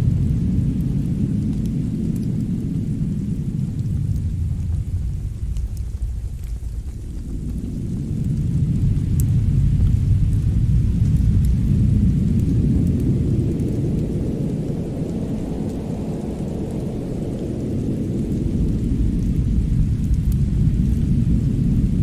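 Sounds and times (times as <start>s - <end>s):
deep rumble: 0.0s - 22.0s
wood fire crackling: 0.0s - 22.0s.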